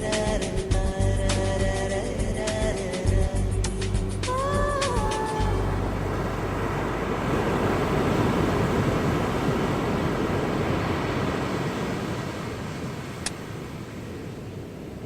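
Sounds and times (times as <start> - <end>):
steady seashore rushing: 1.7 - 15.0.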